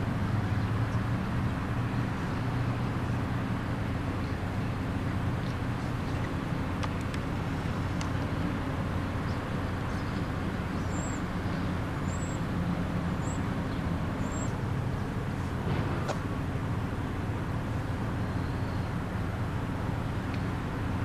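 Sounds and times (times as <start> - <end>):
low rumble of traffic: 0.0 - 21.0.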